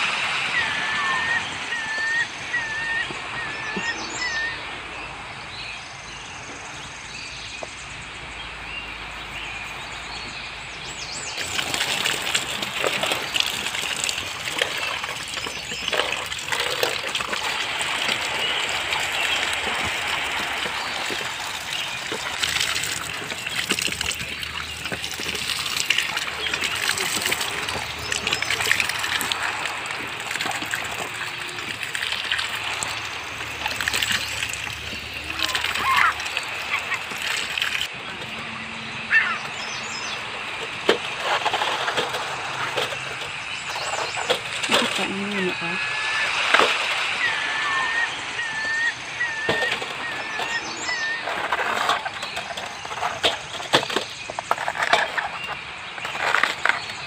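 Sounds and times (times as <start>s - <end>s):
water splashing over roots: 8.5s - 57.0s.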